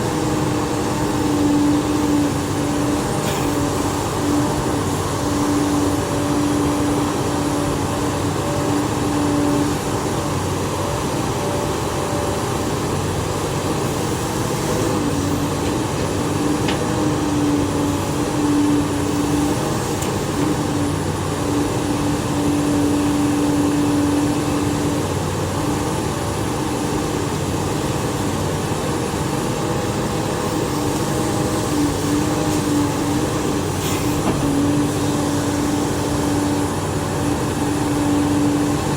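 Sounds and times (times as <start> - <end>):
hydraulic excavator running: 0.0 - 38.9.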